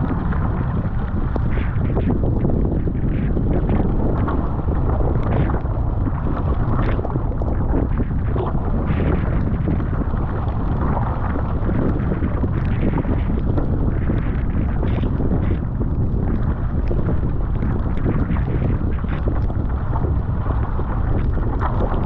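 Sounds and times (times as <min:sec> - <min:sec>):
water slapping against a hull: 0:00.0 - 0:22.0
wind buffeting microphone: 0:00.0 - 0:22.0.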